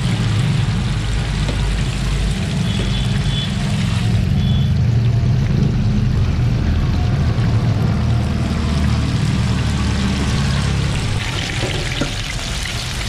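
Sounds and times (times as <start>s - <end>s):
oil bubbling and sizzling: 0.0s - 13.0s.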